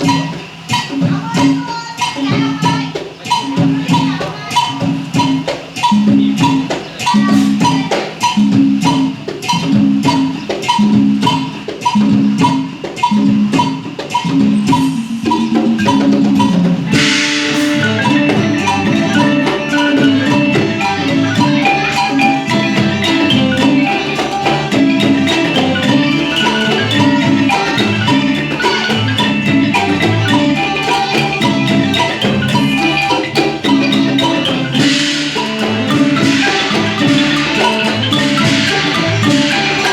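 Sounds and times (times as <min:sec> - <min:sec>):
folk dance music: 0:00.0 - 0:39.9
log xylophone: 0:00.0 - 0:39.9
steady clicking beat: 0:00.0 - 0:39.9.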